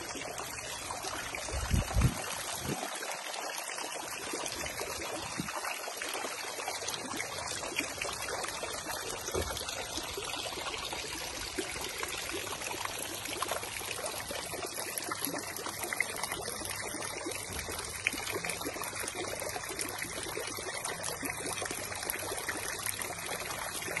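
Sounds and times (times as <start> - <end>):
water jets splashing into water: 0.0 - 24.0.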